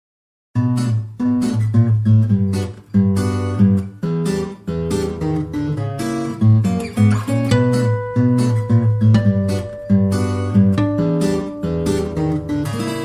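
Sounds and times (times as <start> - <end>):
acoustic guitar strumming chords: 0.6 - 13.0.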